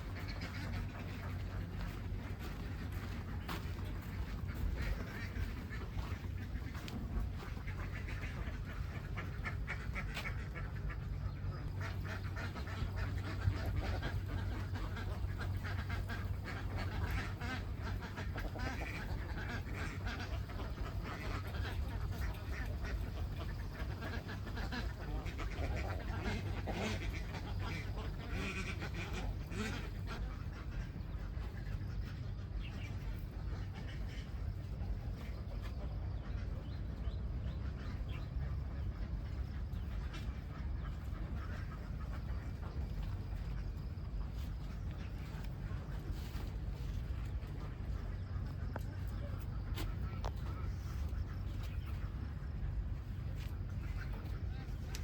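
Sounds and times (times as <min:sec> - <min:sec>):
flock of ducks quacking: 0:00.0 - 0:55.0
steady low hum: 0:00.0 - 0:55.0.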